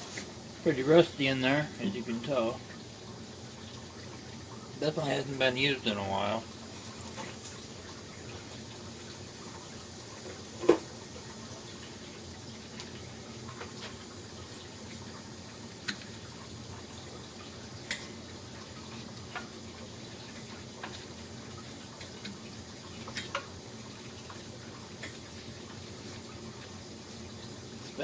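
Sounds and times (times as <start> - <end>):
background hiss: 0.0 - 28.0.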